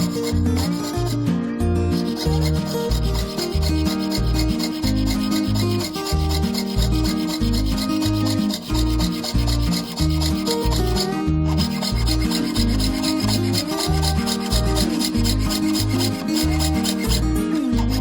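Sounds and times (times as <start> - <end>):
hand scraping metal: 0.0 - 1.3, 1.9 - 18.0.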